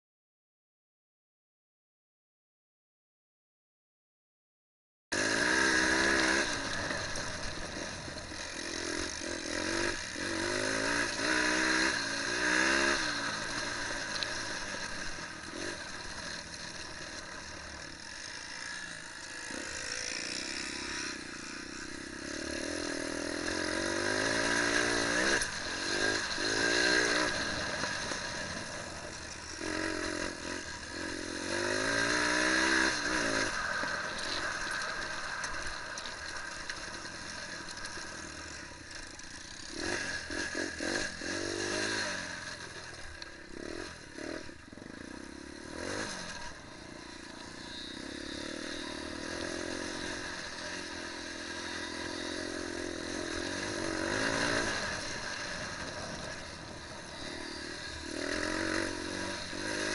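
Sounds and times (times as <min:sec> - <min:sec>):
dirt bike engine revving: 0:05.1 - 0:59.9.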